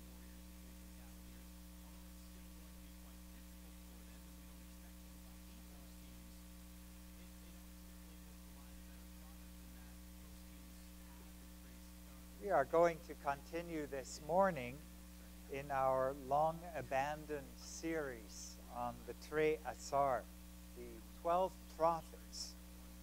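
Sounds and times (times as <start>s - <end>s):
electrical mains hum: 0.0s - 23.0s
faint hiss: 0.0s - 23.0s.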